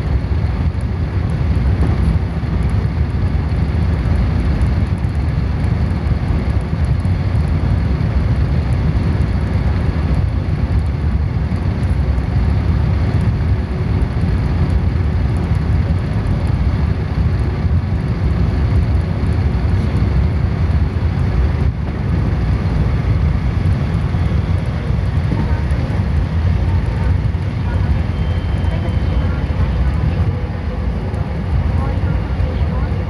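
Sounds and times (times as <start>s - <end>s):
train running at speed: 0.0s - 33.0s.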